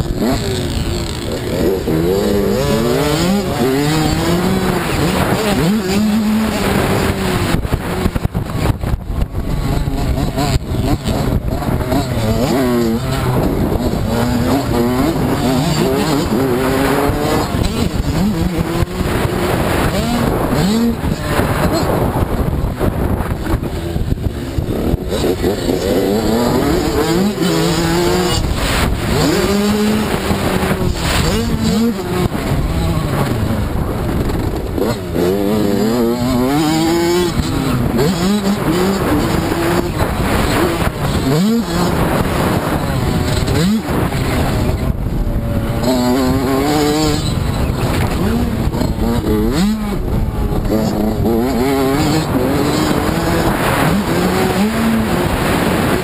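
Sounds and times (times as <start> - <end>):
dirt bike engine revving: 0.0 - 56.0
wind noise on microphone: 0.0 - 56.0.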